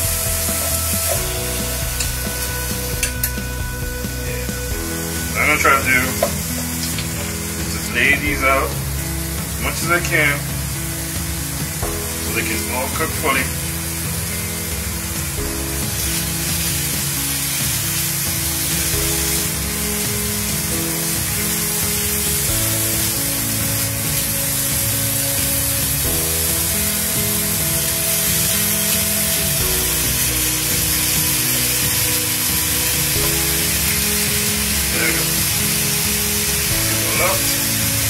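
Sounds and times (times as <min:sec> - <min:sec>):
background music with sustained chords: 0:00.0 - 0:38.0
steak sizzling on a grill: 0:00.0 - 0:38.0.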